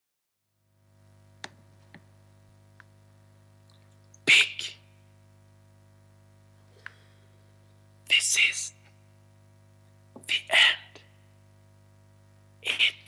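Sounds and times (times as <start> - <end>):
low electrical hum: 0.5 - 13.0.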